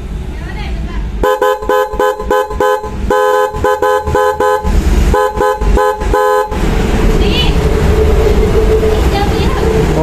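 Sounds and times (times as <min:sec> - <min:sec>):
electric horns short blasts: 0:01.2 - 0:10.0.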